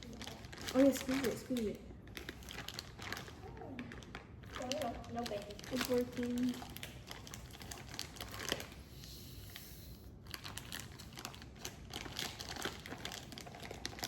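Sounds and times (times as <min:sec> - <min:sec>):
plastic bag crinkling: 0:00.0 - 0:08.9, 0:10.2 - 0:14.0.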